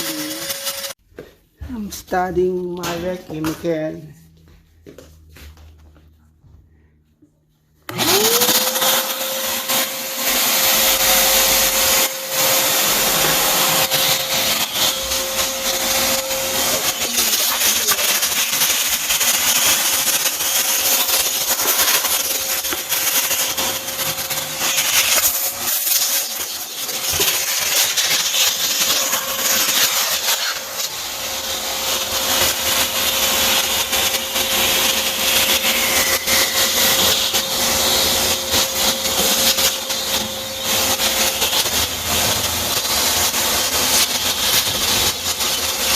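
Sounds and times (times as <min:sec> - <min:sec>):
vacuum cleaner running: 0:00.0 - 0:06.6, 0:07.7 - 0:45.9.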